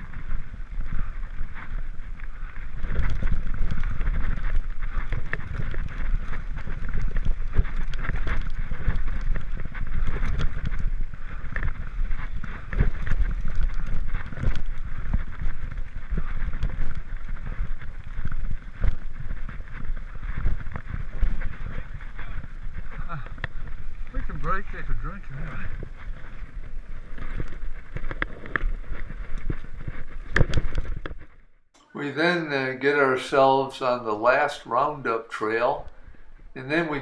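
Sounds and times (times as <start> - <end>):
bike knocks and rattles: 0.0 - 31.4
wind buffeting microphone: 0.0 - 31.5
bike tyres rumbling on dirt: 0.0 - 31.6.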